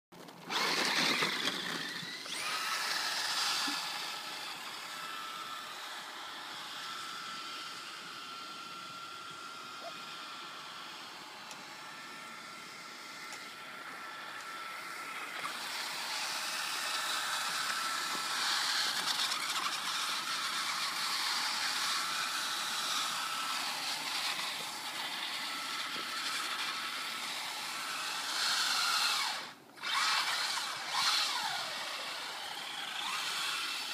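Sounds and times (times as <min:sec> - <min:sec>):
toy truck motor whine: 0:00.4 - 0:33.9.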